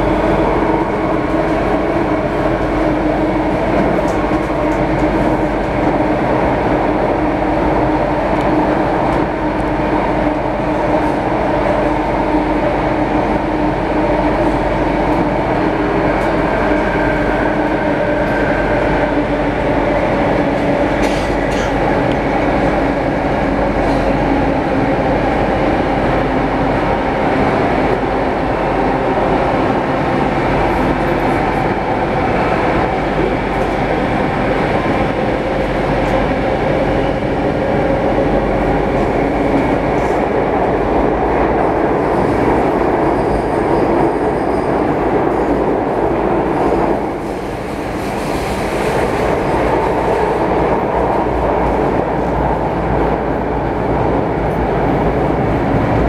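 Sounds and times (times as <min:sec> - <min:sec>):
metro train rumbling in tunnel: 0:00.0 - 0:56.0.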